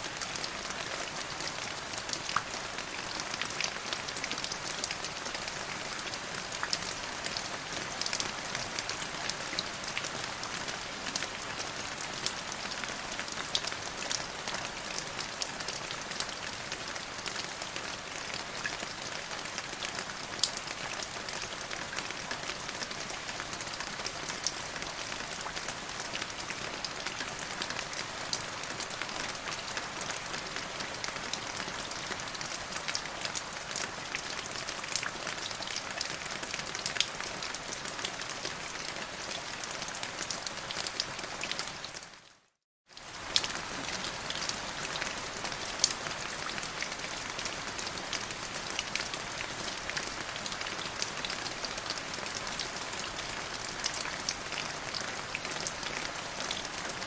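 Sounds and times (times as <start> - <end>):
rain falling: 0.0 - 42.3, 42.9 - 57.0.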